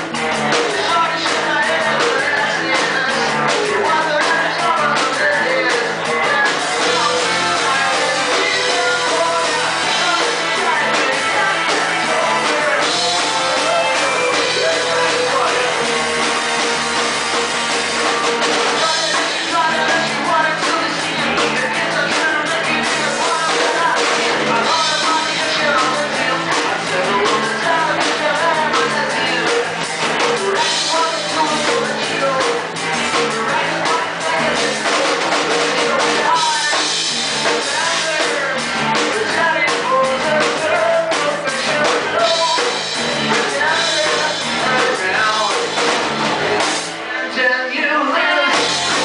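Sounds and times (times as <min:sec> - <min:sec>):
man singing: 0:00.0 - 0:17.1, 0:17.8 - 0:49.0
drum kit: 0:00.0 - 0:47.4, 0:48.2 - 0:49.0
electric guitar: 0:00.0 - 0:49.0.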